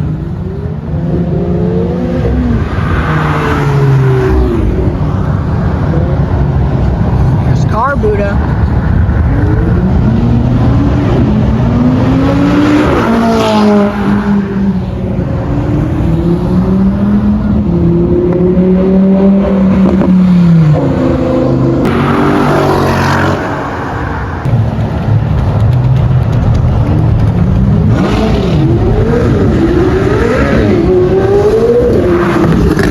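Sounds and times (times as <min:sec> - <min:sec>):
car engine under hard throttle: 0:00.0 - 0:32.9.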